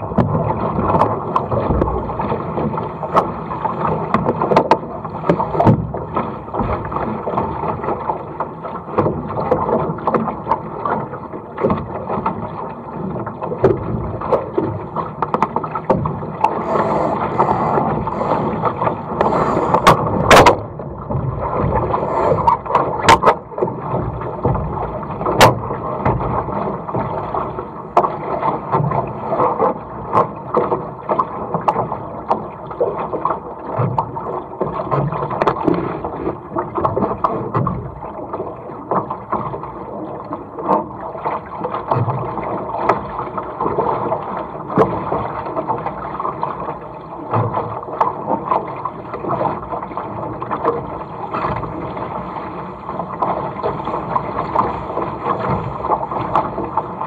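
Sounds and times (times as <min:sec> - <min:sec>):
water slapping against boat hull: 0:00.0 - 0:57.0.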